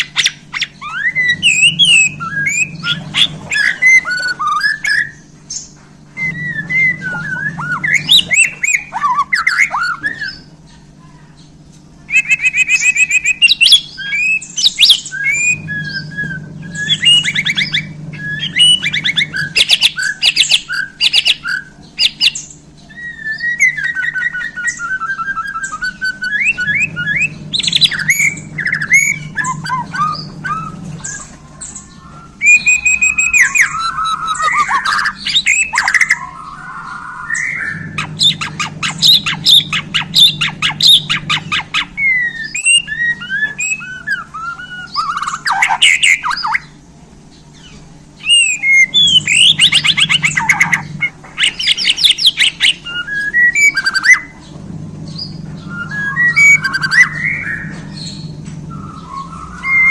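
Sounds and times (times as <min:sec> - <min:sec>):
bird singing loudly: 0:00.0 - 0:59.9.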